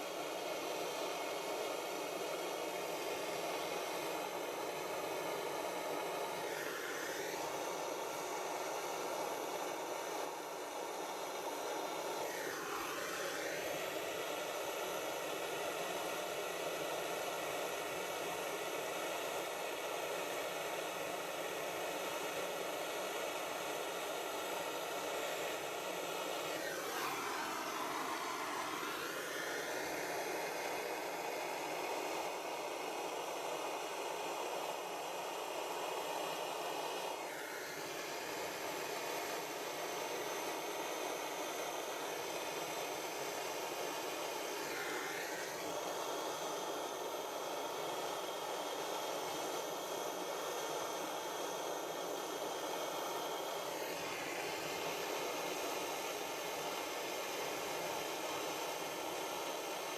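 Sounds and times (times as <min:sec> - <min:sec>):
blow lamp hissing roar: 0:00.0 - 0:59.9.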